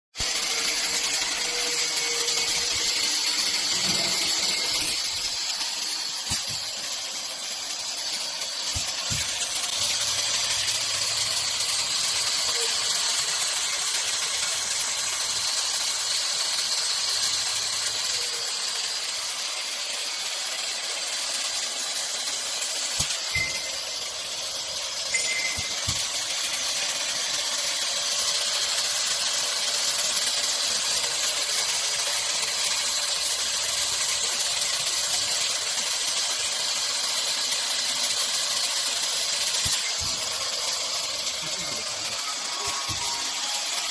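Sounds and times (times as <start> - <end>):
welding machine hiss: 0.1 - 43.9.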